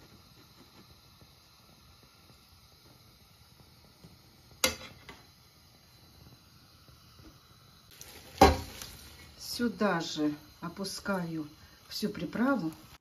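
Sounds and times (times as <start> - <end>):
hiss of water heating in pot: 0.0 - 13.0.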